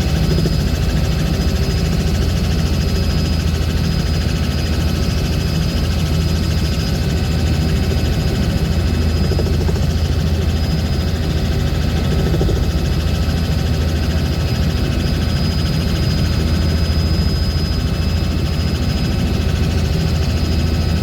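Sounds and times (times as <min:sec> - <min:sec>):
aircraft propeller drone in cabin: 0:00.0 - 0:21.0.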